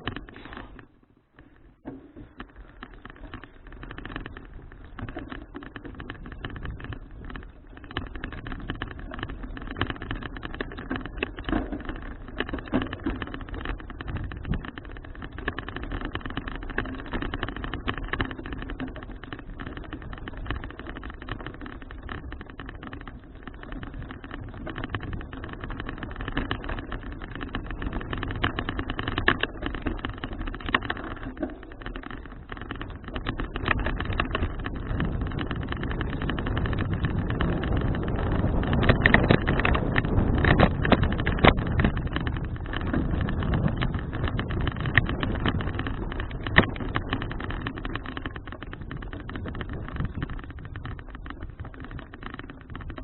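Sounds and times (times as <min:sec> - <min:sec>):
bicycle tyres and frame rattling: 0:00.0 - 0:53.0
road and wind noise: 0:00.0 - 0:53.0.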